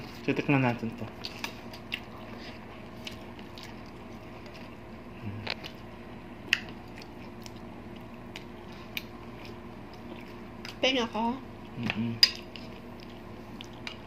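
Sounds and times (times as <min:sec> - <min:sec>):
soft chewing: 0:00.0 - 0:10.8, 0:11.6 - 0:14.0.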